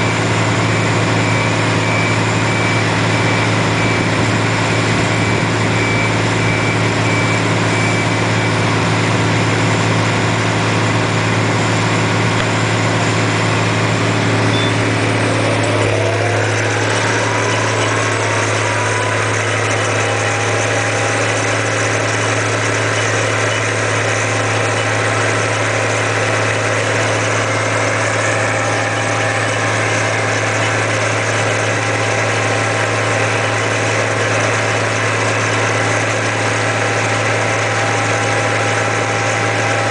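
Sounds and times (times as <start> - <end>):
rising whine: 0.0 - 39.9.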